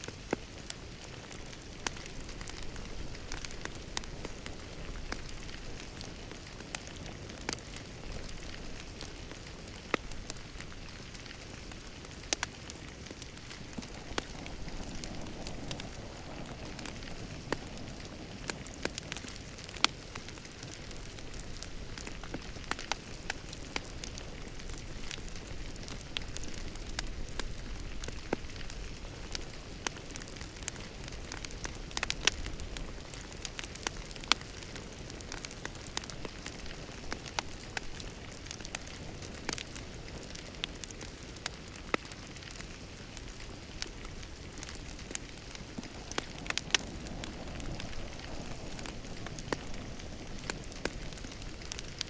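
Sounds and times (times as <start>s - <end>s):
fire pops and snaps: 0.0s - 52.0s
wood fire crackling: 0.0s - 52.0s.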